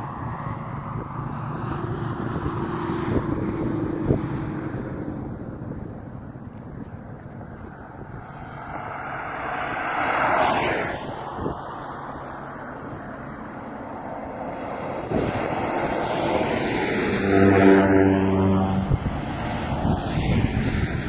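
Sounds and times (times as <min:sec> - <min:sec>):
motor vehicle passing by: 0:00.0 - 0:21.0
steady outdoor rumble: 0:00.0 - 0:21.0.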